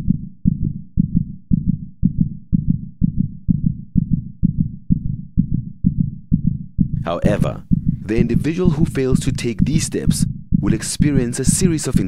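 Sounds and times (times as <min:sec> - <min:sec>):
low thumping beat: 0:00.0 - 0:12.0.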